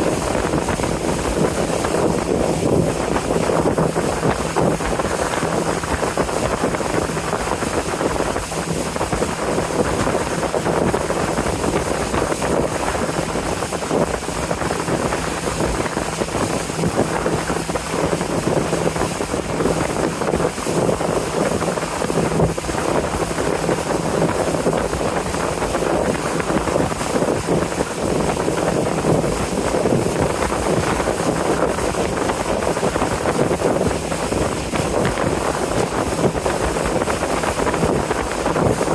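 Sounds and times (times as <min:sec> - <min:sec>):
boat engine humming: 0:00.0 - 0:38.9
wind buffeting microphone: 0:00.0 - 0:38.9.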